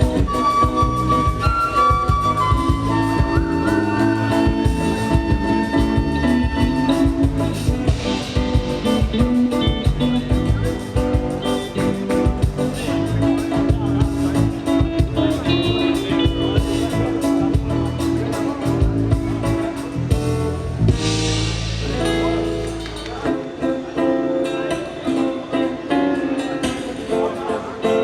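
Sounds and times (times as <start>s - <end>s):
live band playing instrumental: 0.0s - 28.0s.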